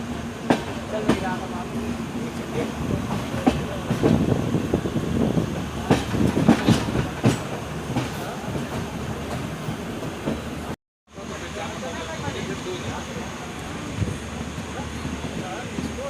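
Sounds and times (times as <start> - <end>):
train coach rumbling: 0.0 - 16.0.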